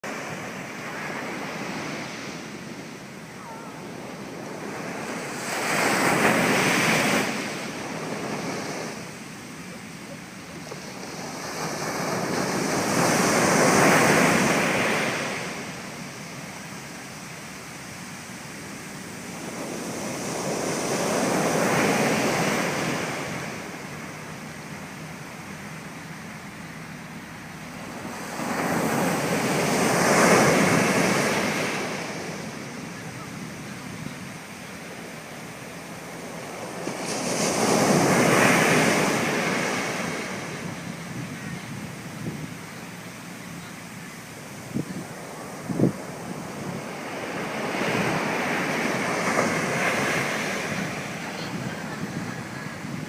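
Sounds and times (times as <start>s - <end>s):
sea waves breaking: 0.0s - 53.0s.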